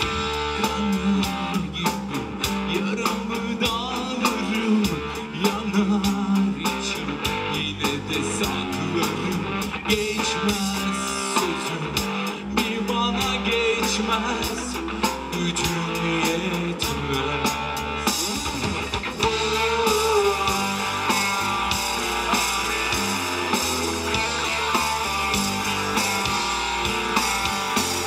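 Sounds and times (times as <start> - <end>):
drum kit: 0.0 - 28.0
electric guitars: 0.0 - 28.0.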